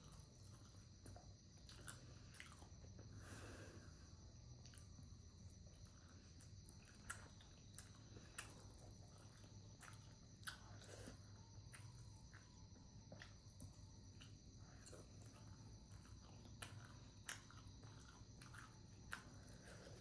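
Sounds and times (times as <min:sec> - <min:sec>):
faint chewing and biting: 0:00.0 - 0:20.0.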